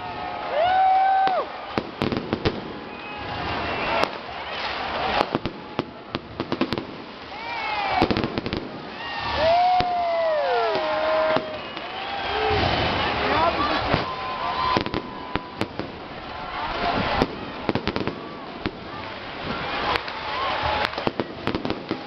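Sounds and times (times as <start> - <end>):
crowd whooping: 0.0 - 22.0
fireworks and firecrackers banging: 0.0 - 22.0.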